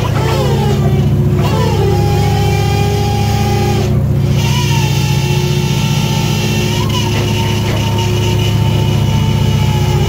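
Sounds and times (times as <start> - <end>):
low engine drone: 0.0 - 10.0
thin rising whine: 0.0 - 10.0.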